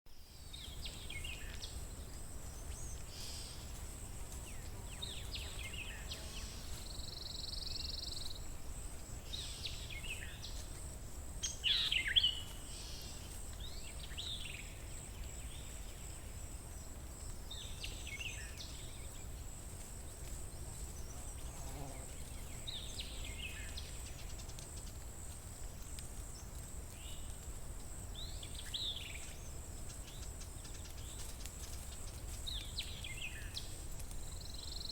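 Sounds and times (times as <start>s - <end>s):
songbirds singing: 0.2s - 10.8s, 11.4s - 25.0s, 25.8s - 34.9s.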